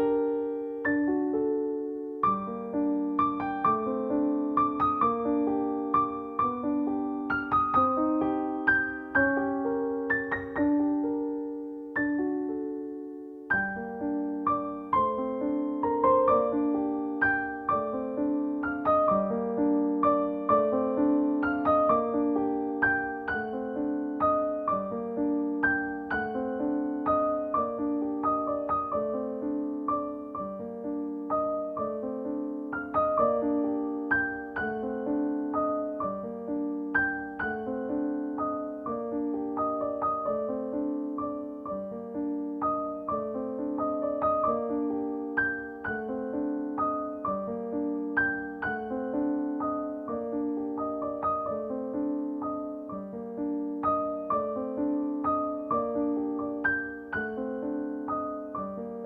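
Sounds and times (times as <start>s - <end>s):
gentle piano music: 0.0s - 59.0s.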